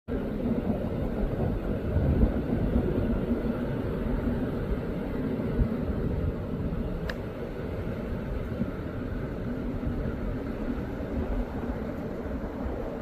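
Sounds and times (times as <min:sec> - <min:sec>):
river water roaring: 0:00.1 - 0:13.0.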